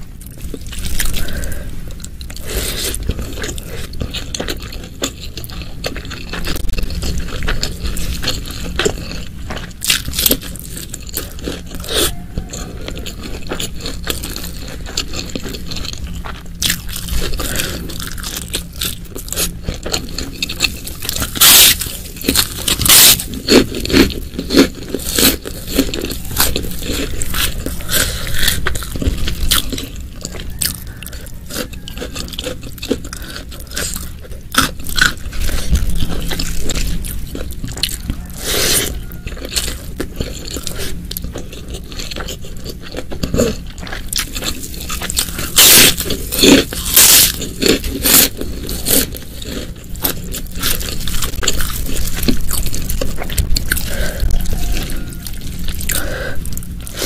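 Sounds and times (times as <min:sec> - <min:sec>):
crunching and scraping: 0:00.0 - 0:57.0
person biting and chewing: 0:00.0 - 0:57.0.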